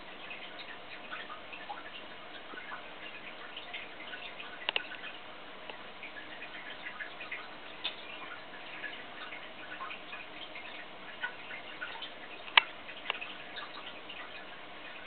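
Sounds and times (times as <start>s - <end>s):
faint steady hiss: 0.0s - 15.0s
water dripping and trickling: 0.0s - 15.0s.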